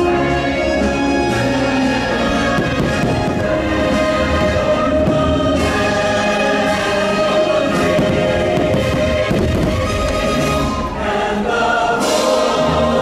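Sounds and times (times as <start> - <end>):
choir singing: 0.0 - 13.0
orchestral music: 0.0 - 13.0.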